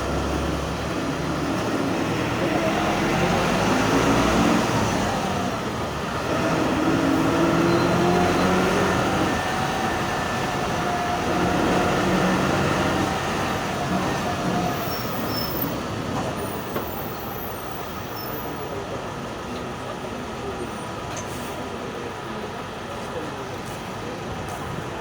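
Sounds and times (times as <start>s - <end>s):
bus diesel engine growl: 0.0s - 25.0s.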